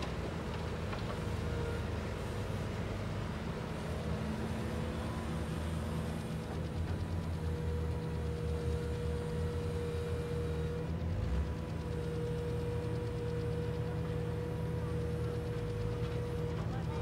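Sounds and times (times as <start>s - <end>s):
diesel engines idling: 0.0s - 17.0s.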